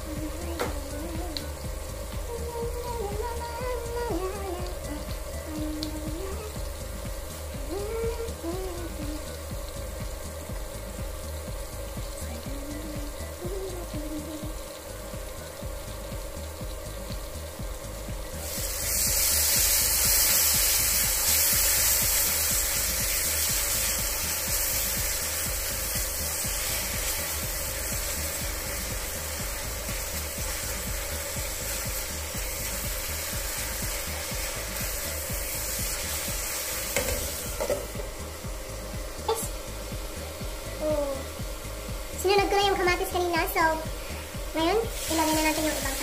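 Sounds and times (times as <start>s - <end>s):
food sizzling in a wok: 0.0s - 46.0s.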